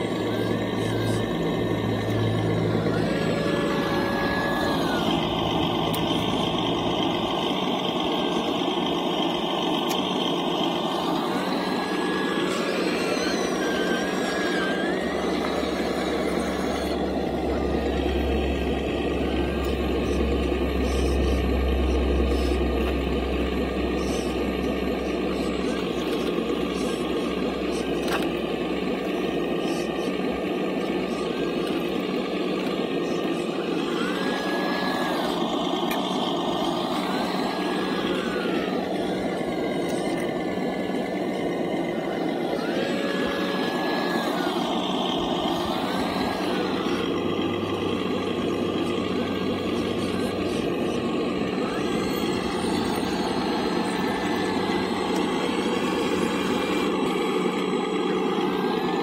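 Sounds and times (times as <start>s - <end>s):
toy excavator motor whine: 0.0s - 59.0s.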